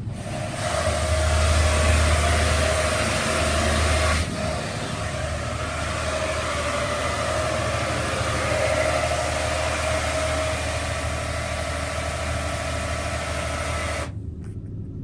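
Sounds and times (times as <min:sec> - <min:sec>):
car wash machinery rushing: 0:00.0 - 0:14.2
low rumble: 0:00.0 - 0:15.0
steady hum: 0:00.0 - 0:15.0.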